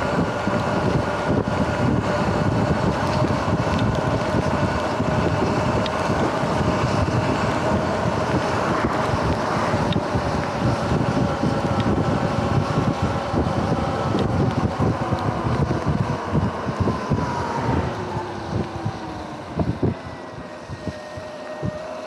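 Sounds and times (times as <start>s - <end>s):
electric motor whine: 0.0s - 22.0s
tyres on wet asphalt: 0.0s - 22.0s
wind buffeting microphone: 0.0s - 22.0s.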